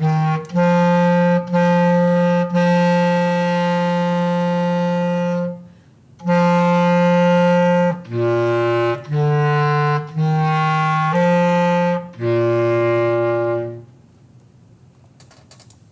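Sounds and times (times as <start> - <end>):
bass clarinet slow melody: 0.0 - 14.0.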